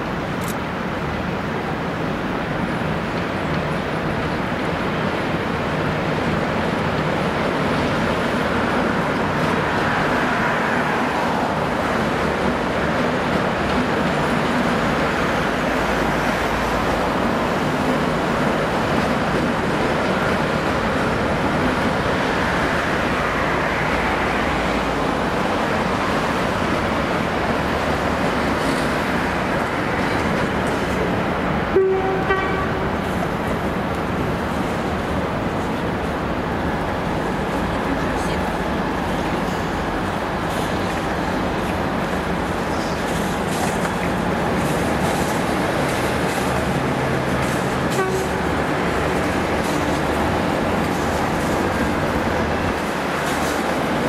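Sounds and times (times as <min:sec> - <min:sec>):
road traffic noise: 0:00.0 - 0:54.0
steam train moving slowly: 0:00.0 - 0:54.0.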